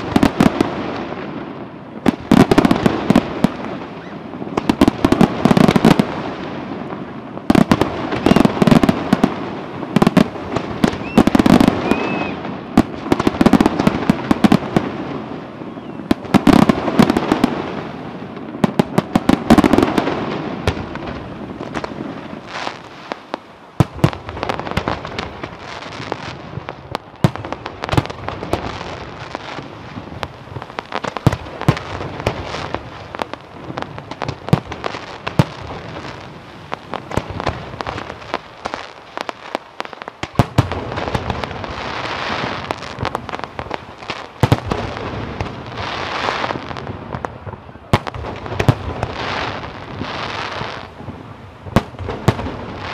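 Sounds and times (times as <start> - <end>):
crackling firework stars: 0.0 - 52.9.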